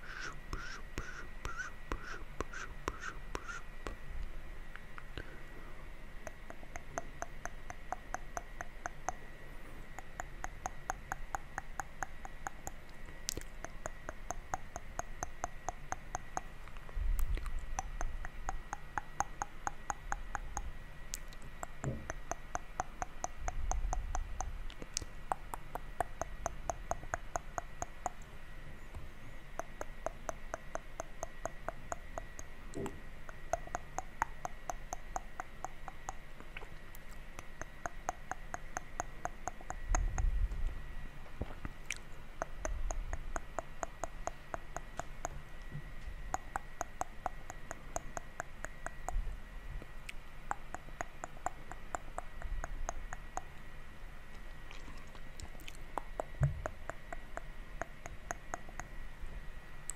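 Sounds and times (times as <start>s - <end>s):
tongue and lip clicks: 0.0s - 5.4s, 6.2s - 40.8s, 41.4s - 53.7s, 54.3s - 59.0s.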